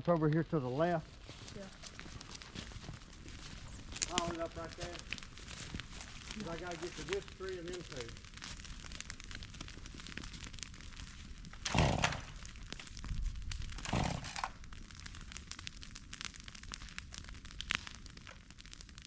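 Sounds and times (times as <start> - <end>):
brush crackling and snapping: 0.0 - 19.0.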